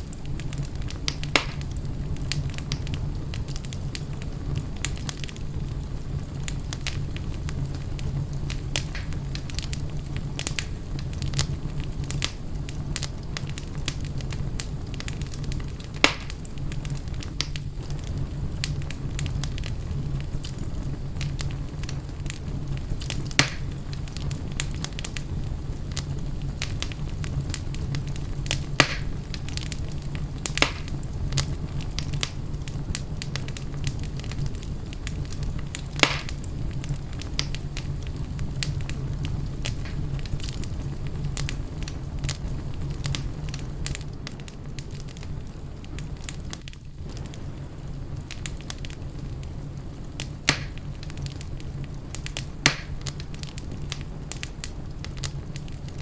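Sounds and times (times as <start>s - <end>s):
fire crackling: 0.0s - 56.0s
fire popping: 0.0s - 56.0s.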